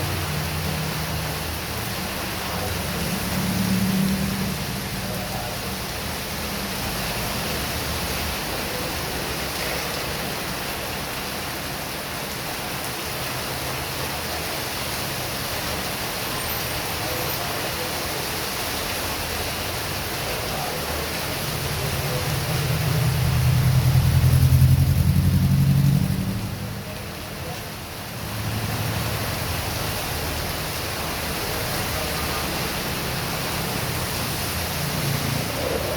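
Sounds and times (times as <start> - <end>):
heavy rain: 0.0 - 35.9
vehicle rumble: 0.0 - 35.9.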